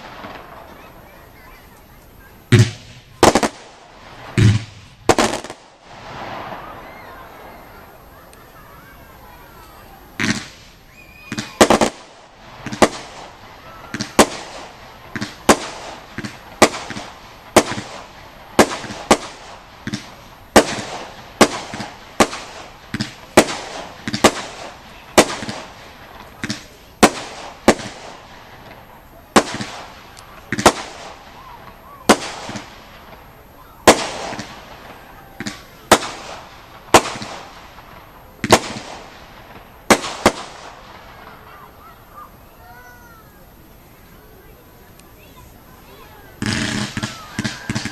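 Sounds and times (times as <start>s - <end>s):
fireworks banging: 0.0s - 47.9s.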